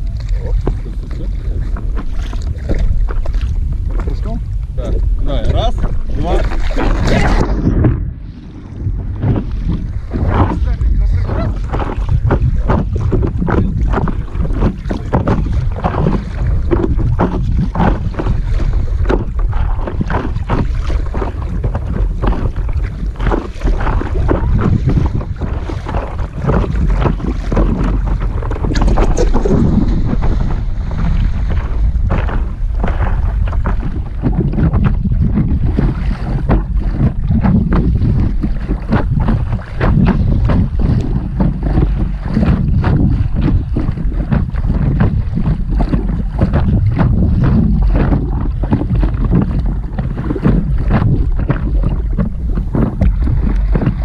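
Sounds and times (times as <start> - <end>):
water slapping against board: 0.0 - 54.0
wind buffeting microphone: 0.0 - 54.0.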